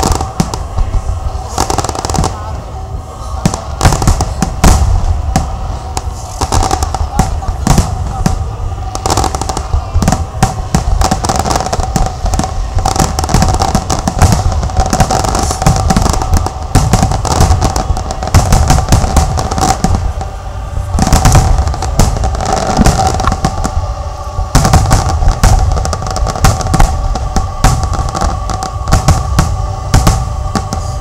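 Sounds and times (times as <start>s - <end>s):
fireworks bangs and crackles: 0.0s - 31.0s
steady tone: 0.0s - 31.0s.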